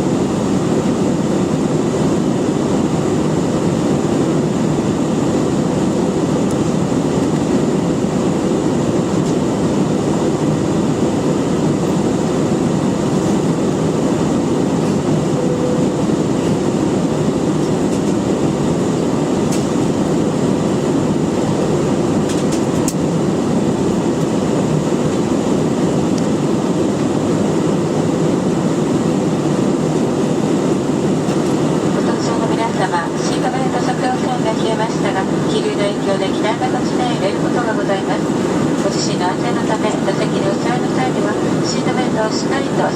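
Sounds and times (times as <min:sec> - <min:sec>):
airliner cabin engine roar: 0:00.0 - 0:42.9.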